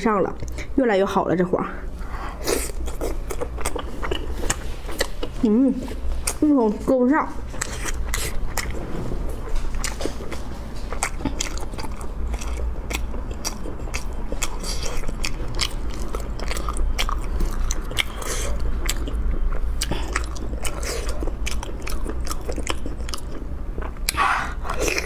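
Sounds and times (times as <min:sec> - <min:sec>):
person chewing food: 0:02.0 - 0:06.4, 0:07.4 - 0:25.0.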